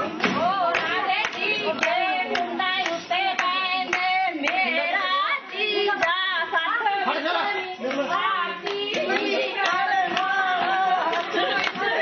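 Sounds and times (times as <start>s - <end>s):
rhythmic hand claps: 0.0s - 12.0s
women singing: 0.0s - 12.0s.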